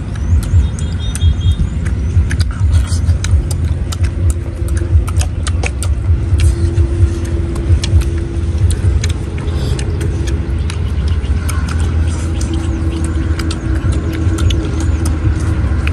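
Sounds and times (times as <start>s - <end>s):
loud low rumble with hum: 0.0s - 15.9s.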